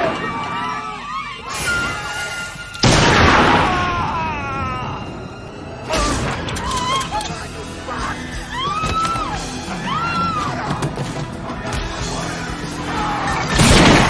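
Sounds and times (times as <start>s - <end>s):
film music: 0.0s - 14.0s.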